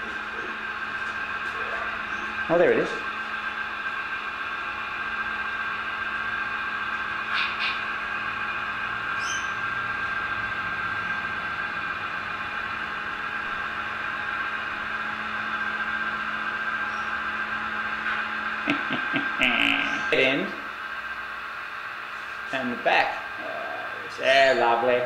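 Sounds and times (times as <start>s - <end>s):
model locomotive hum: 0.0s - 25.0s.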